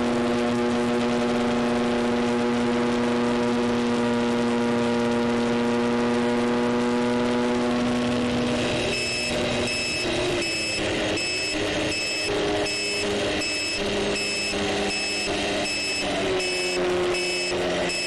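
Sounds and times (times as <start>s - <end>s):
electric motor and propeller hum: 0.0s - 18.0s.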